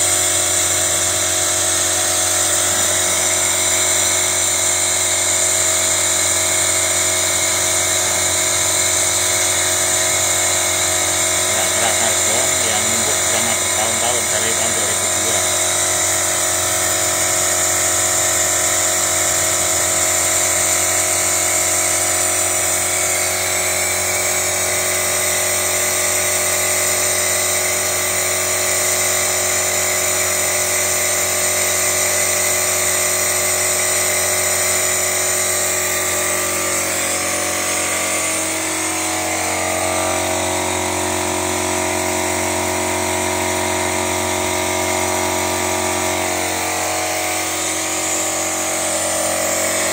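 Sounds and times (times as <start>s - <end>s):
air compressor whining: 0.0s - 49.9s.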